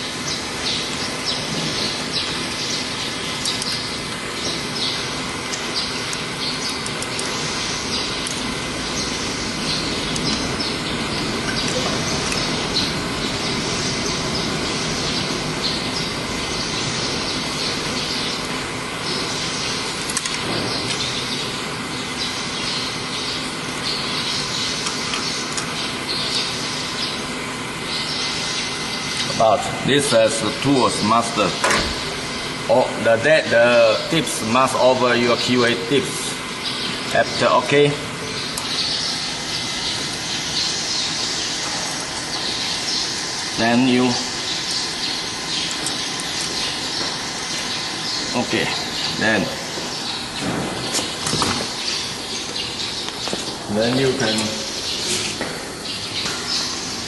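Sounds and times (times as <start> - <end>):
workshop machinery humming: 0.0 - 57.0.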